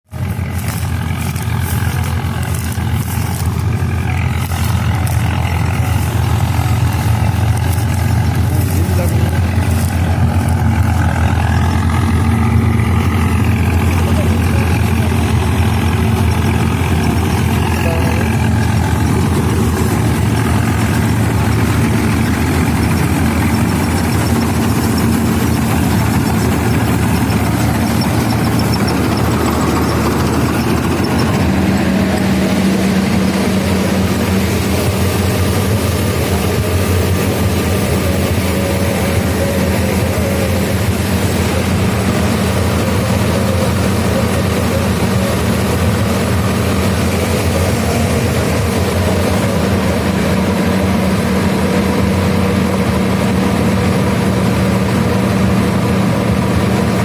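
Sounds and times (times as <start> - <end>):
combine harvester machinery noise: 0.0 - 57.0
tractor diesel engine drone: 0.0 - 57.0.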